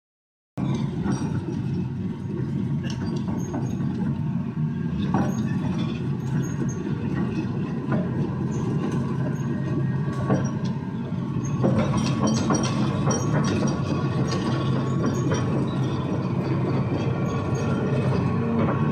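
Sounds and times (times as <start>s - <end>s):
metallic clanks and squeaks: 0.6s - 4.2s, 5.0s - 18.9s
excavator diesel engine running: 0.6s - 18.9s.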